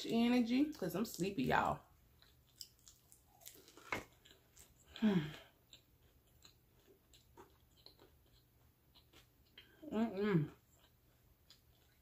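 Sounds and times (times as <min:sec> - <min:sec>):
person chewing pizza: 0:02.0 - 0:12.0.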